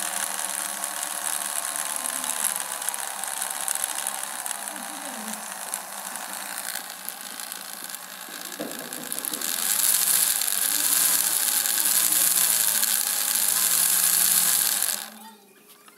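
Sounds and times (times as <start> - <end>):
model truck engine sound: 0.0 - 15.9.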